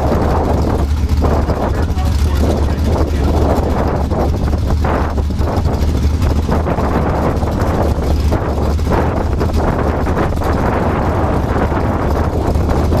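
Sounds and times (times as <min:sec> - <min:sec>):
race car engines running loudly: 0:00.0 - 0:13.0
wind buffeting microphone: 0:00.0 - 0:13.0.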